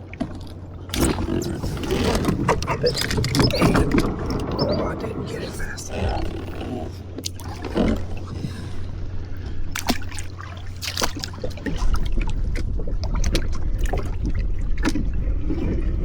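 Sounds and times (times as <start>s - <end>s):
steady low rumble: 0.0s - 16.0s
water lapping around a kayak: 0.0s - 16.0s.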